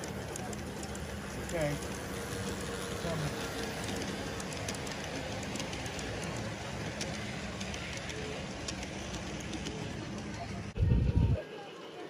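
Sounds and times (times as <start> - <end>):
light clicks of track: 0.0 - 10.7
model train wheels rumbling: 0.0 - 12.0.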